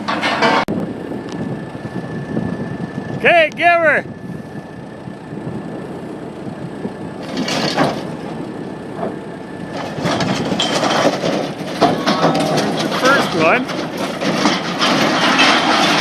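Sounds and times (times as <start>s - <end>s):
motor vehicle engine: 0.0s - 16.0s.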